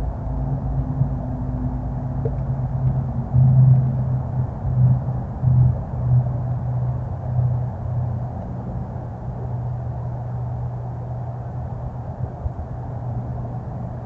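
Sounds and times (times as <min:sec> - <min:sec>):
low rumble with droning hum: 0:00.0 - 0:14.0.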